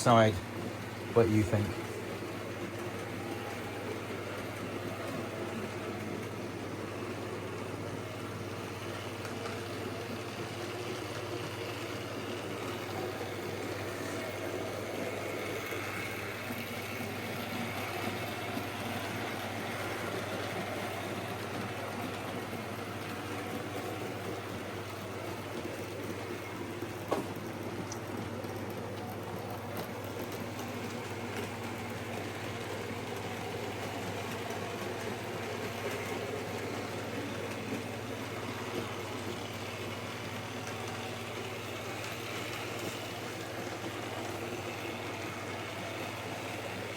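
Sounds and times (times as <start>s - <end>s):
model train motor hum: 0.0s - 46.9s
wheels running on track: 0.0s - 46.9s.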